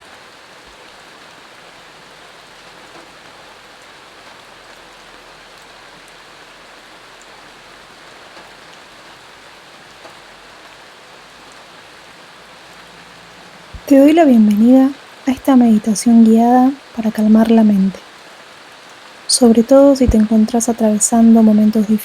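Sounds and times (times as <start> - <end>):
loud raindrops: 0.0 - 22.0
steady rain: 0.0 - 22.0.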